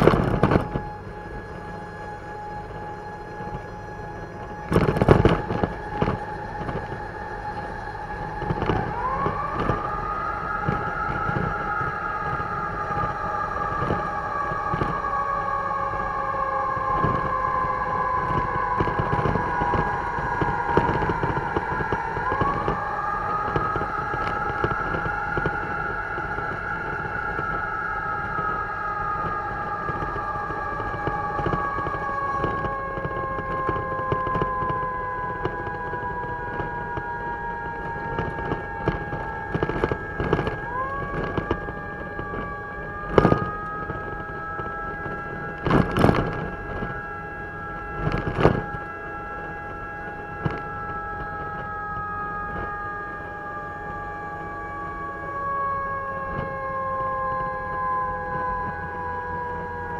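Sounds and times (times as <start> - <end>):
emergency siren wailing: 0.0 - 59.9
fire truck road and engine noise: 0.0 - 59.9
steady high tone: 0.0 - 59.9.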